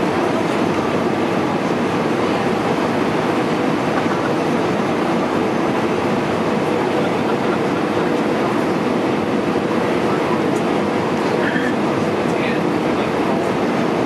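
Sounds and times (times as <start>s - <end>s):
jet engine roar in cabin: 0.0s - 14.0s
rushing air: 0.0s - 14.0s.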